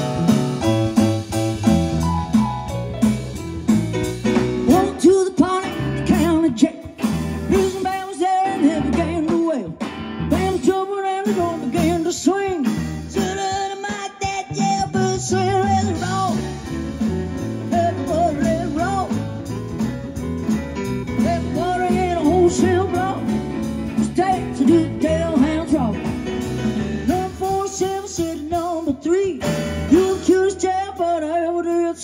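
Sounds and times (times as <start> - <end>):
electric guitar melody: 0.0 - 31.3
drums: 0.0 - 32.0
walking bass: 0.0 - 32.0.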